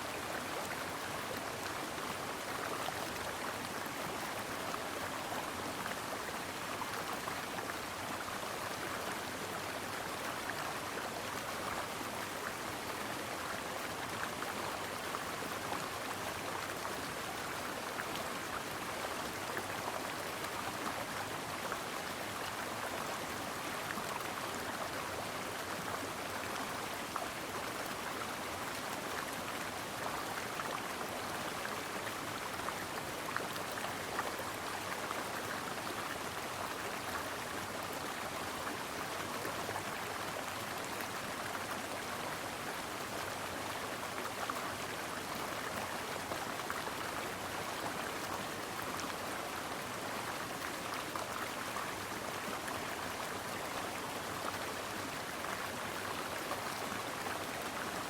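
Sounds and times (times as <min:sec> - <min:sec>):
stream water running over rocks: 0:00.0 - 0:58.0.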